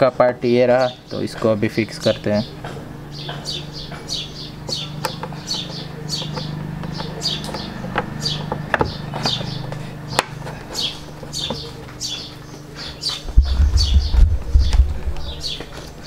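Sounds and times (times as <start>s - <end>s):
low steady hum: 0.0s - 16.0s
bird chirping: 0.5s - 16.0s.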